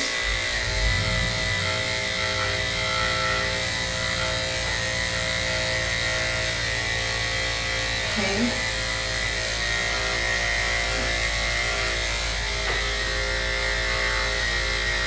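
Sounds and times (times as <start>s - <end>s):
electric clipper humming: 0.0s - 15.0s.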